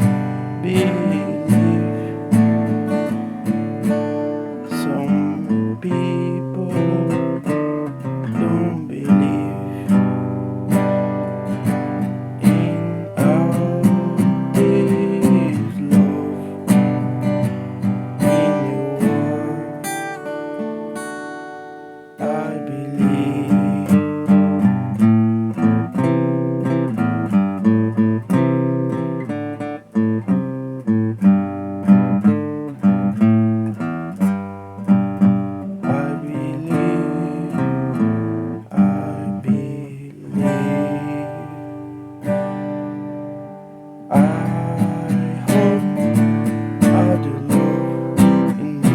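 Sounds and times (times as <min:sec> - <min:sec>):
acoustic guitar folk playing: 0:00.0 - 0:48.9.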